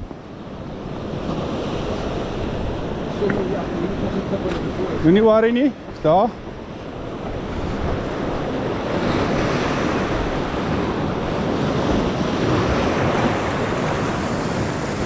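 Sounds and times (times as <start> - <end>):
ocean surf on rocks: 0.0 - 15.0.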